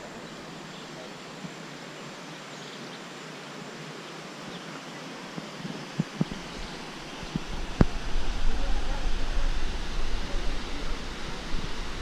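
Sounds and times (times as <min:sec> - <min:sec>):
countryside background hiss: 0:00.0 - 0:12.0.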